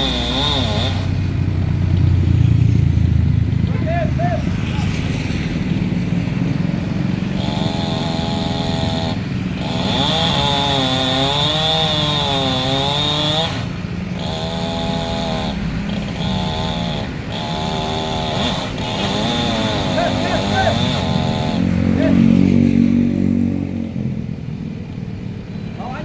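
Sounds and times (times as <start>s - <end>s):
chainsaw cutting wood: 0.0s - 2.4s, 4.7s - 23.9s.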